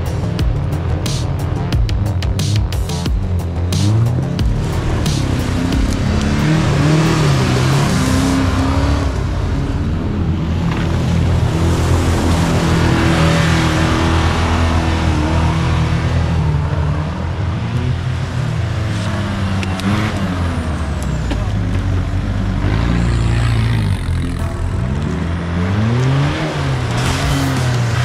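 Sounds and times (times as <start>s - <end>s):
off-road engine revving hard: 3.6s - 28.0s.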